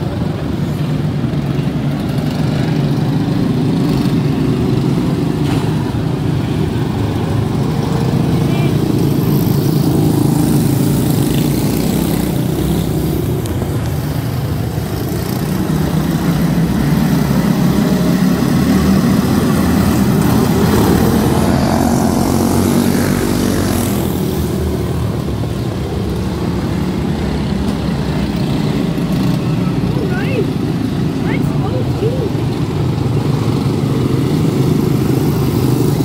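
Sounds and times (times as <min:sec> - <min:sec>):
race cars buzzing: 0:00.0 - 0:36.0.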